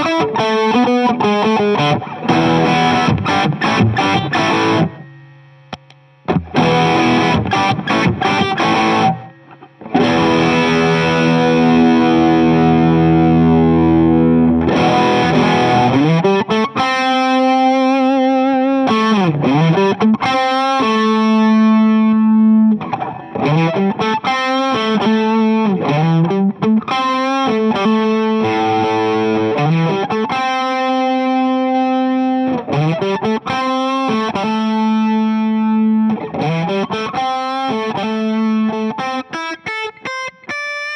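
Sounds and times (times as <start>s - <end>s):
overdriven electric guitar: 0.0s - 40.9s.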